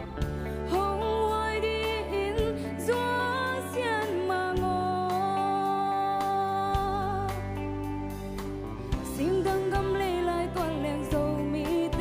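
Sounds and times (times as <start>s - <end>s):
woman singing into microphone: 0.0s - 8.0s, 9.0s - 12.0s
live band with drums and guitar: 0.0s - 12.0s.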